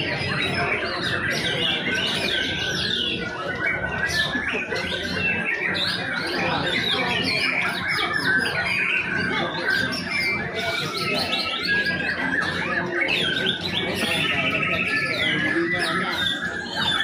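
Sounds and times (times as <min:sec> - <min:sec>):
many songbirds singing: 0:00.0 - 0:17.0.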